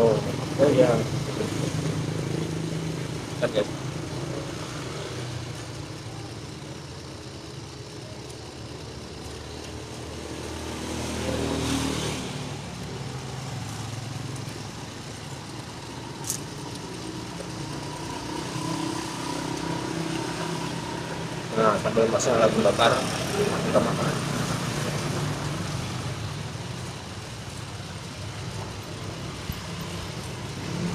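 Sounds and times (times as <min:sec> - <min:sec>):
vehicle passing: 0:00.0 - 0:06.2, 0:09.2 - 0:30.9
road traffic passing: 0:00.0 - 0:30.9.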